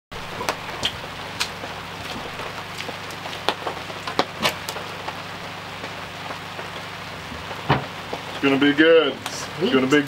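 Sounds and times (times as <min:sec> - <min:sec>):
raindrops tapping close by: 0:00.1 - 0:10.0
steady rain falling: 0:00.1 - 0:10.0.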